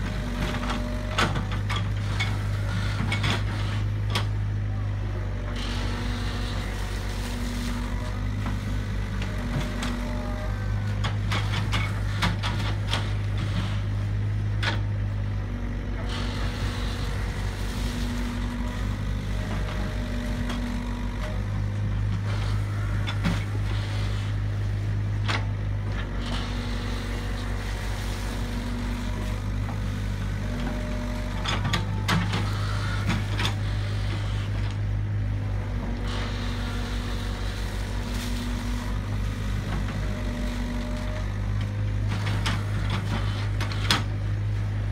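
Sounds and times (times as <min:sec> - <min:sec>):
excavator diesel engine running: 0:00.0 - 0:44.9
hydraulic whine: 0:00.0 - 0:44.9.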